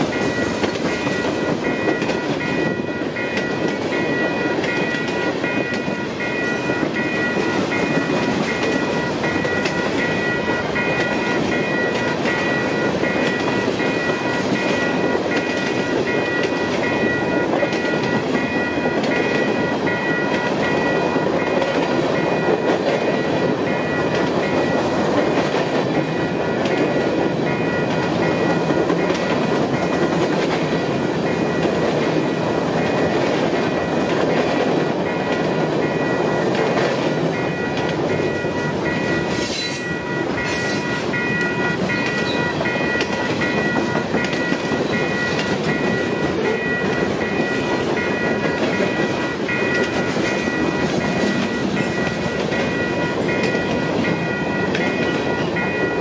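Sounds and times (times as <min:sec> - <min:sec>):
crossing signal bell ringing: 0:00.0 - 0:56.0.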